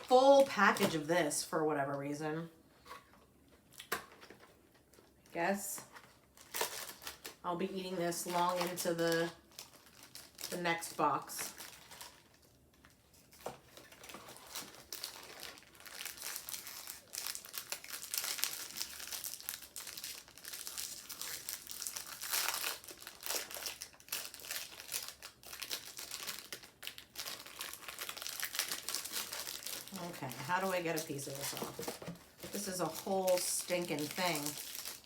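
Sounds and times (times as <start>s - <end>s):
plastic wrapper crinkling: 5.9s - 35.0s.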